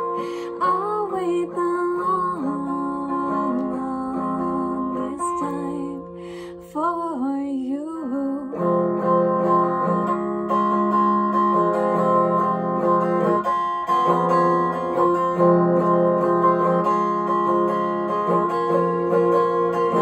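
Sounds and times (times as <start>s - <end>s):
electric guitar strumming chords: 0.0s - 7.1s, 8.5s - 20.0s.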